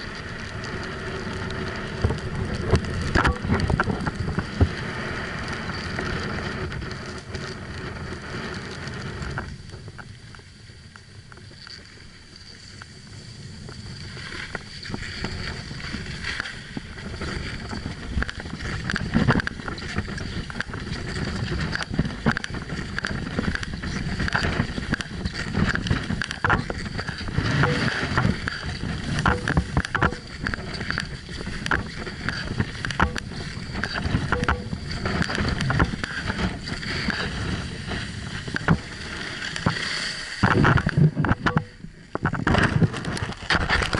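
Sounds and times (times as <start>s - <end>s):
skis scraping over snow: 0.0s - 43.9s
wind on microphone: 0.0s - 43.9s.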